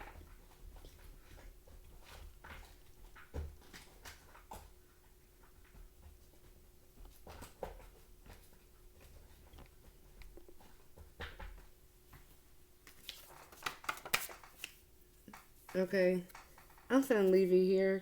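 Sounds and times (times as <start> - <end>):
soft handling clicks and rustles: 0.0 - 17.4.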